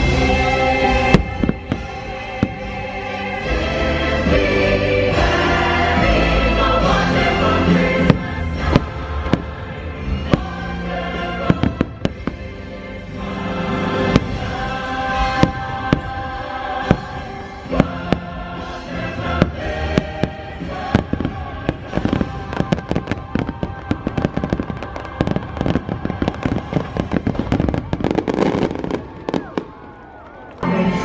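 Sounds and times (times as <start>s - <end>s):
fireworks bursting: 0.0s - 4.6s, 5.6s - 30.6s
fireworks show music: 0.0s - 31.0s.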